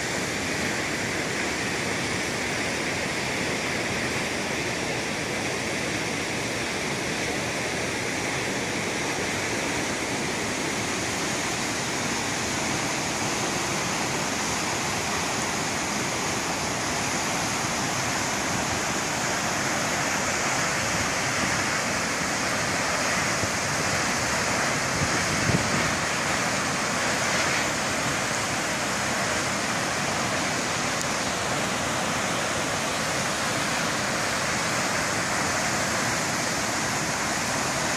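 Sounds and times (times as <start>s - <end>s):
roar of large waterfall: 0.0s - 37.9s.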